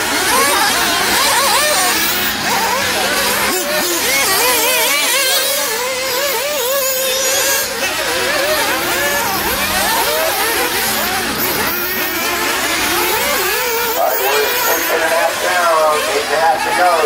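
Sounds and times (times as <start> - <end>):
rc car engines revving: 0.0 - 17.0.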